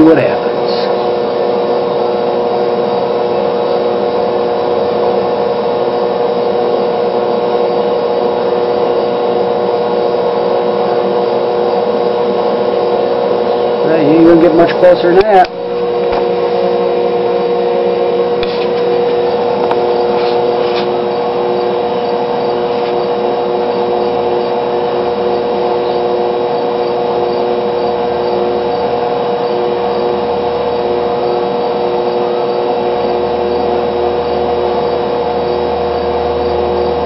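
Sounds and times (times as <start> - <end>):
battery charger humming: 0.0 - 37.0.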